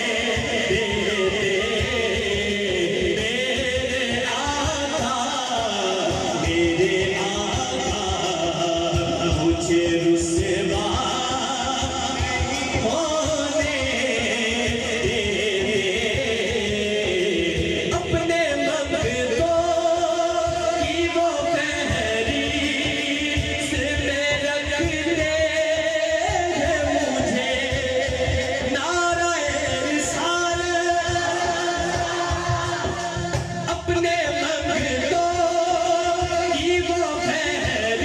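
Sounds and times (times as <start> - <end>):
man singing devotional song: 0.0 - 38.0.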